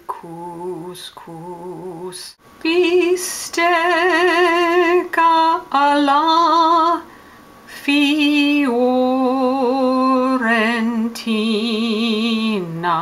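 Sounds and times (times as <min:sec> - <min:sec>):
woman singing operatically: 0:00.0 - 0:07.1, 0:07.7 - 0:13.0.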